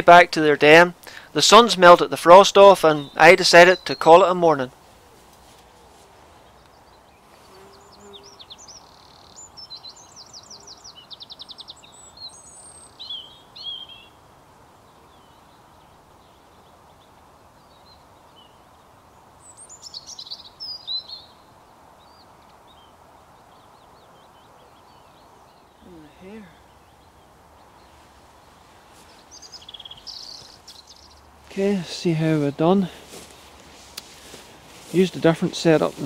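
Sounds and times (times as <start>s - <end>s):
steady background hiss: 0.0s - 36.0s
songbirds singing: 0.1s - 36.0s.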